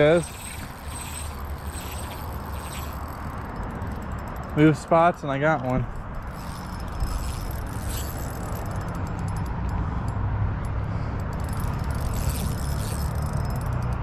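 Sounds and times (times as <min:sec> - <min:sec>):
fishing reel gear clicks: 0:00.0 - 0:04.9, 0:05.9 - 0:14.0.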